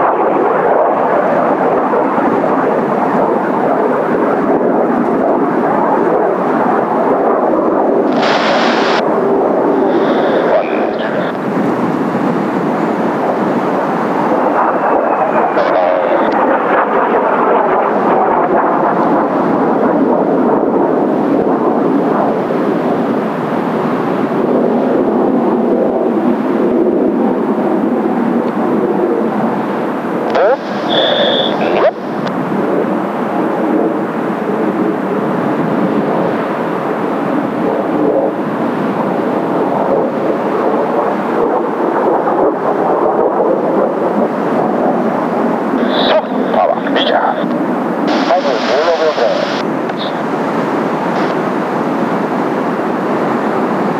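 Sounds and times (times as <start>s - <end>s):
jet aircraft rumble: 0.0s - 53.9s
strong wind: 0.0s - 53.9s.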